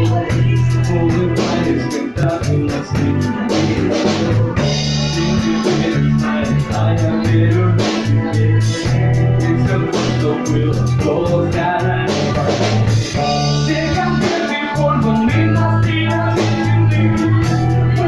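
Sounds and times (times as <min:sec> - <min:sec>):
pop-rock band playing: 0:00.0 - 0:18.0.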